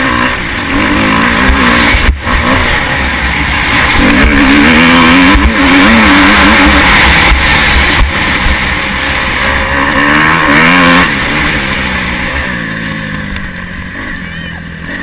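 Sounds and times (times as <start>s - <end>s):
motocross bike engine revving: 0.0s - 15.0s
steady rushing noise: 0.0s - 15.0s.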